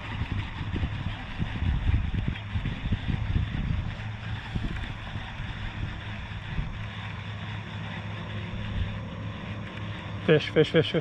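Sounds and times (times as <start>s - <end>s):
boat motor humming: 0.0s - 11.0s
water noise: 0.0s - 11.0s
wind: 0.0s - 11.0s.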